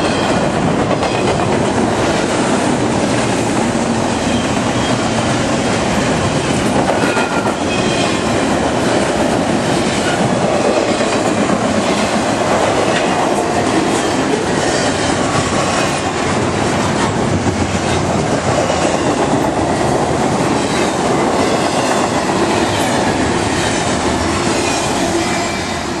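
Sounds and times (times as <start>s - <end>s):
freight train wheels on rail: 0.0s - 26.0s.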